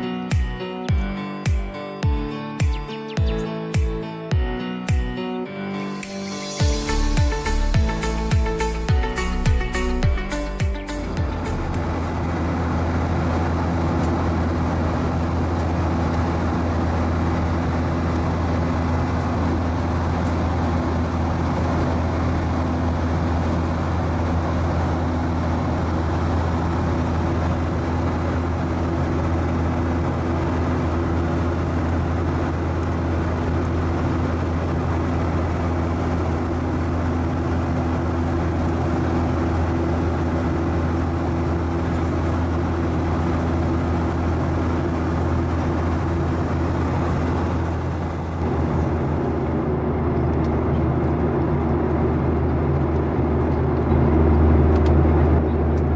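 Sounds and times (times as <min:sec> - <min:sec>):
airplane cabin engine drone: 0:06.5 - 0:55.9.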